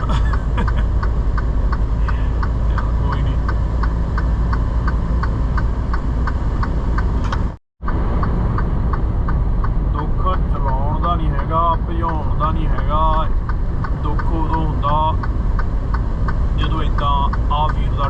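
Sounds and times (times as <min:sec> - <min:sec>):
truck engine rumble from inside cab: 0:00.0 - 0:18.0
light regular ticking: 0:00.1 - 0:18.0.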